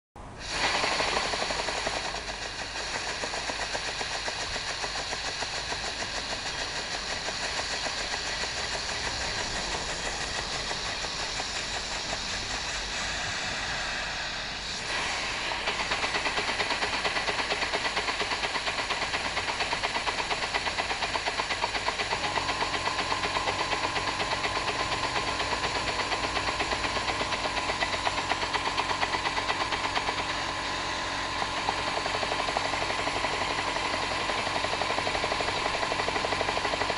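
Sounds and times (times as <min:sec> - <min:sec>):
steady air hiss: 0:00.2 - 0:36.9
steam engine chuffing: 0:00.2 - 0:36.9.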